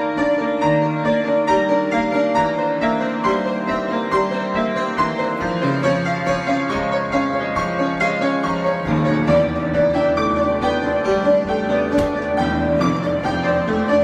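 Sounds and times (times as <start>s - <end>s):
solo piano: 0.0s - 14.0s.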